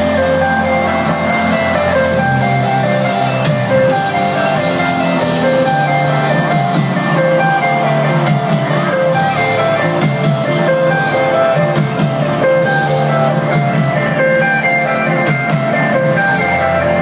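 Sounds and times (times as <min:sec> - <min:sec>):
instrumental music over stadium speakers: 0:00.0 - 0:17.0.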